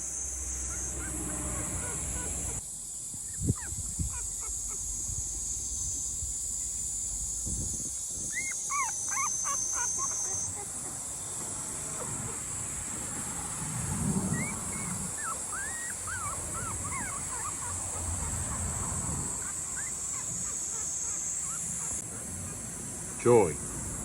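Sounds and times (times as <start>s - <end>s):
high insect-like buzz: 0.0s - 24.0s
high arching animal calls: 0.2s - 2.6s, 3.2s - 24.0s.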